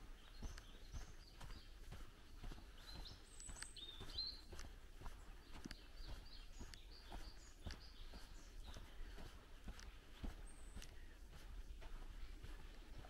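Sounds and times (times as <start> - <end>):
faint birdsong: 0.0 - 13.0
footsteps on dirt path: 0.0 - 13.0.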